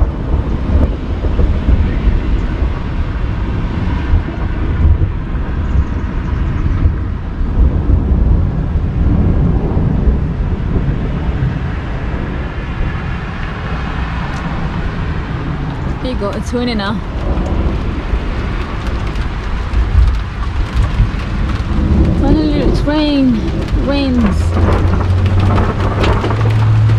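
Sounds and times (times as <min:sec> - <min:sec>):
gusty wind buffeting microphone: 0:00.0 - 0:26.9.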